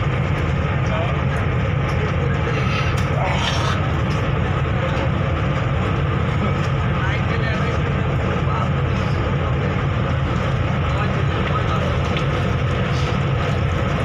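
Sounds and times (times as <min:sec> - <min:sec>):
ferry engine rumble: 0:00.0 - 0:14.0.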